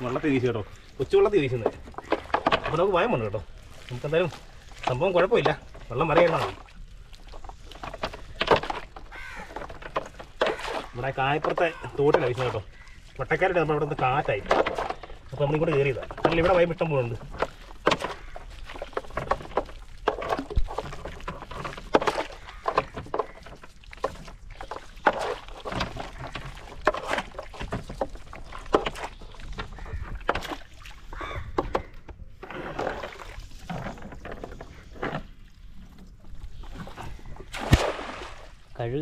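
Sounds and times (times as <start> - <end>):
fish flapping and splashing in water: 0.0 - 39.0.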